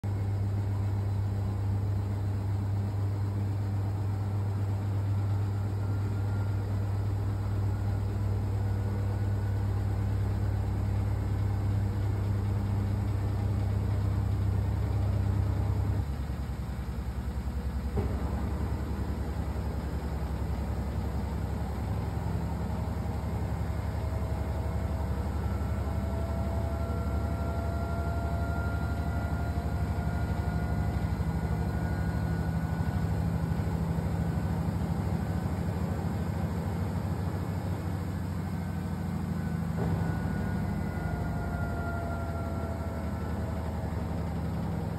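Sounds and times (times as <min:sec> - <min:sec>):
washing machine spin cycle hum: 0:00.0 - 0:44.9.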